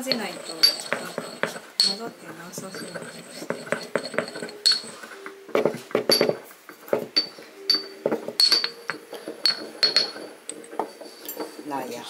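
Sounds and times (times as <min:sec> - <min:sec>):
pestle clinking in ceramic mortar: 0:00.0 - 0:11.6.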